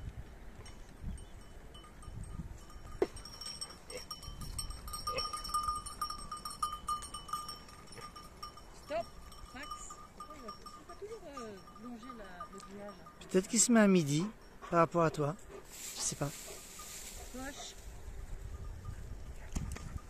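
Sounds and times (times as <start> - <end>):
sheep bells clinking: 0.6 - 20.0.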